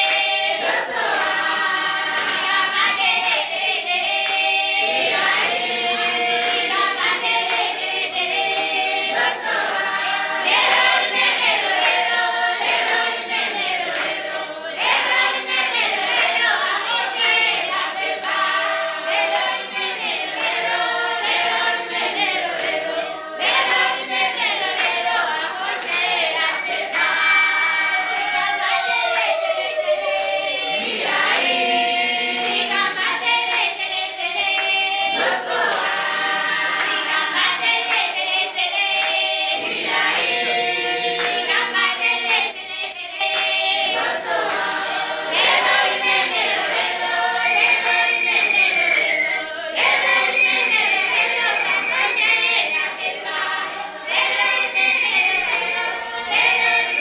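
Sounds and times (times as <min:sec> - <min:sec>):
group of people singing: 0:00.0 - 0:57.0
hand clapping: 0:00.0 - 0:57.0.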